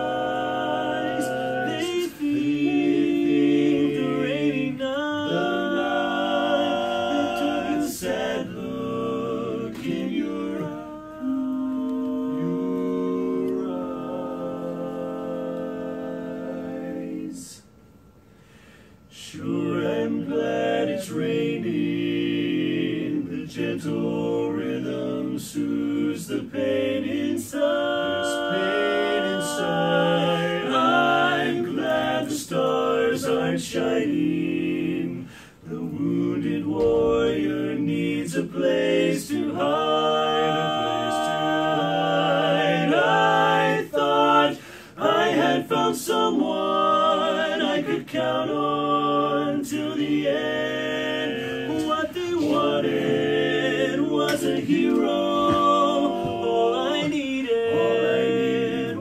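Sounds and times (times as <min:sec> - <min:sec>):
men singing in close harmony: 0:00.0 - 0:17.6, 0:19.1 - 0:59.0.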